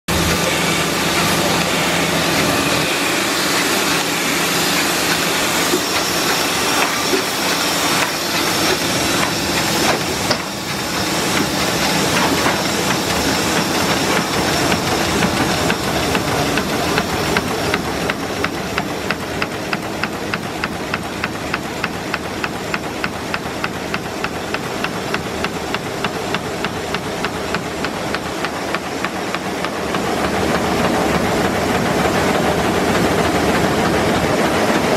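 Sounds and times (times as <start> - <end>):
printing press running: 0.1 - 34.9
regular mechanical clatter: 0.1 - 34.9.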